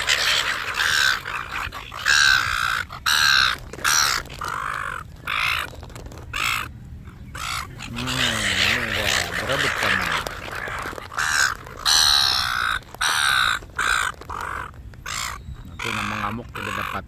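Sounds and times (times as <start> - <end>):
harsh crow-like bird calls: 0.0 - 17.0.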